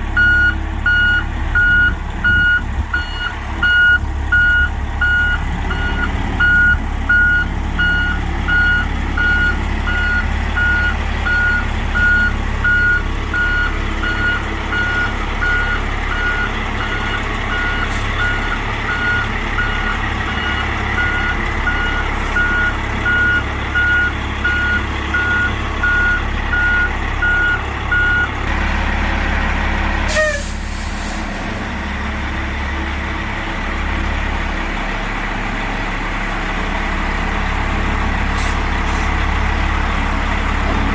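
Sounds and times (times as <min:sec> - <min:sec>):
truck engine running: 0:00.0 - 0:40.9
truck reversing alarm beeping: 0:00.0 - 0:40.9.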